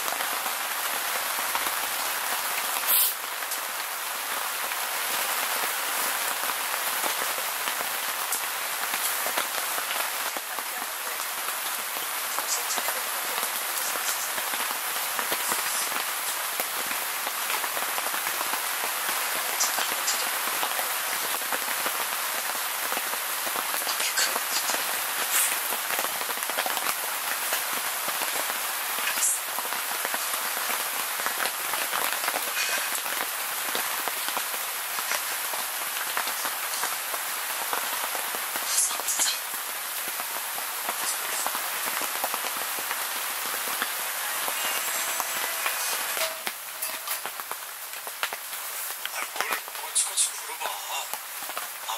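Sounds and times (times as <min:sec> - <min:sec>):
heavy rain on a tent: 0:00.0 - 0:51.9.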